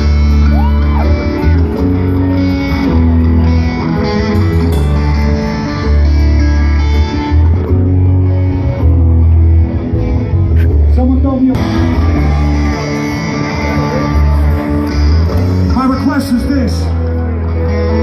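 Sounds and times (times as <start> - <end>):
amplified rock music: 0.0 - 18.0.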